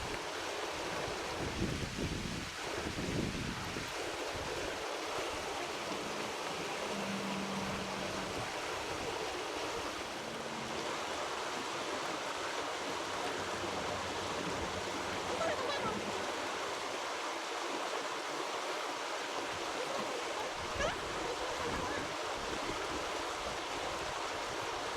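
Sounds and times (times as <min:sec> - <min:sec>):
flowing creek water: 0:00.0 - 0:24.9.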